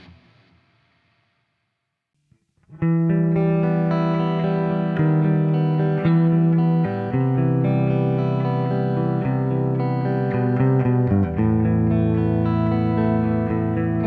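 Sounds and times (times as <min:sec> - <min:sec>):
electric guitar chords: 0:02.7 - 0:14.0.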